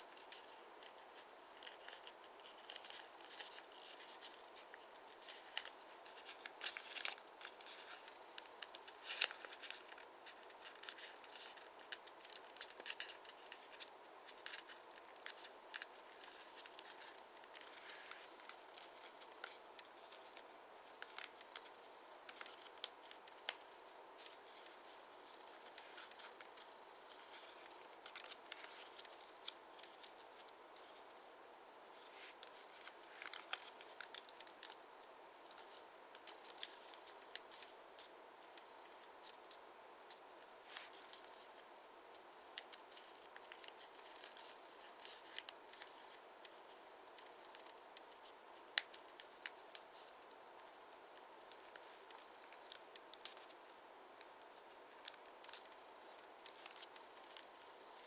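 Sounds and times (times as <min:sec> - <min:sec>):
paper crinkling: 0:00.0 - 0:31.2, 0:31.9 - 0:58.0
faint hum: 0:00.0 - 0:58.0.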